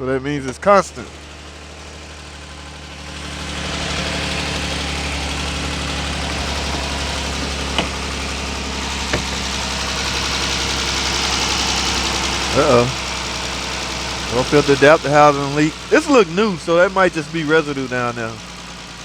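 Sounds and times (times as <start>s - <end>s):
car engine idling with ticking: 0.0s - 19.0s.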